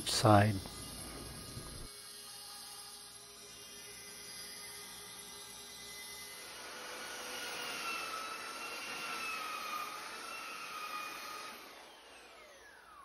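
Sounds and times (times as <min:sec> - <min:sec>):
belt sander whining: 0:00.0 - 0:13.0
sander motor spinning down: 0:00.0 - 0:13.0.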